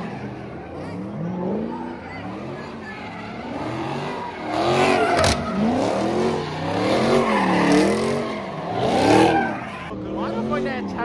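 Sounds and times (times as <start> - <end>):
tyres squealing: 0.0 - 9.9
car engine revving: 0.0 - 11.0.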